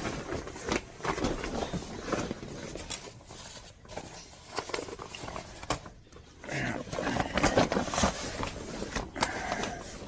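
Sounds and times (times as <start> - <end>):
rustling: 0.0 - 10.0.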